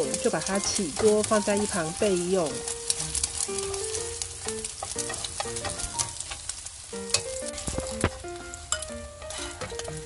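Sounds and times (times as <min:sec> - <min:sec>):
metal spatula scraping a pan: 0:00.0 - 0:06.5, 0:07.1 - 0:10.0
oil sizzling: 0:00.0 - 0:10.0.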